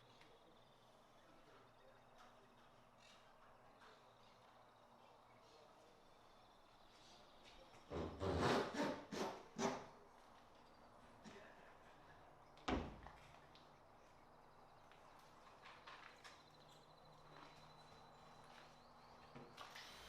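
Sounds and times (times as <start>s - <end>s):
low steady background noise: 0.0s - 20.0s.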